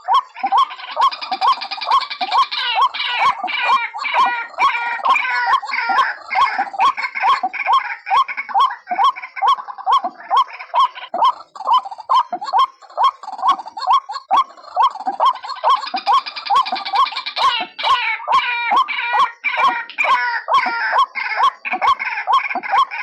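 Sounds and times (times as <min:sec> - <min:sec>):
bird chattering calls: 0:00.0 - 0:23.0
bird croaking notes: 0:00.0 - 0:23.0.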